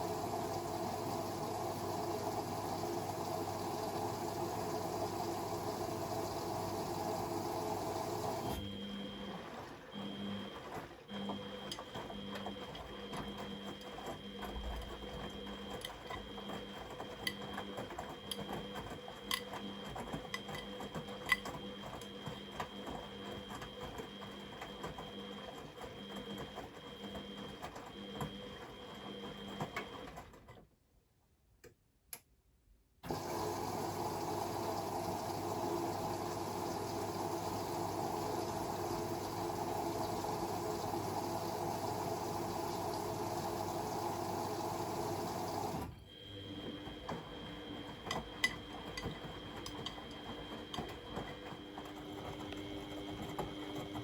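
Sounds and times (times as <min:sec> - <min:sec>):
washing machine hum: 0:00.0 - 0:30.6, 0:33.0 - 0:54.0.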